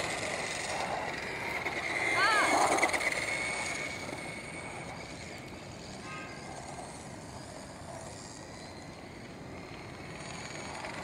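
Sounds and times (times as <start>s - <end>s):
rc cars electric whine: 0.0s - 11.0s.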